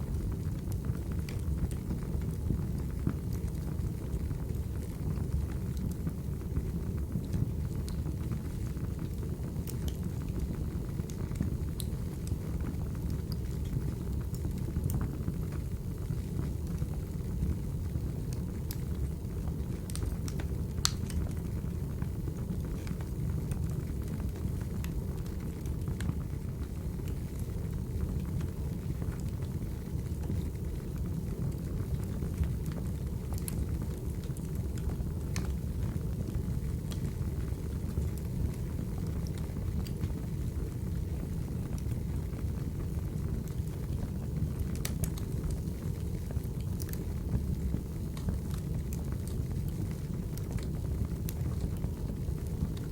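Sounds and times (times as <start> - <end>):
fire crackling and popping: 0.0 - 52.9
low rumble of flames: 0.0 - 52.9.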